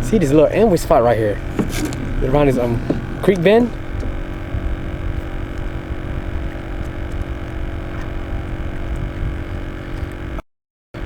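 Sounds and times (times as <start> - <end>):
constant hum: 0.0 - 10.4.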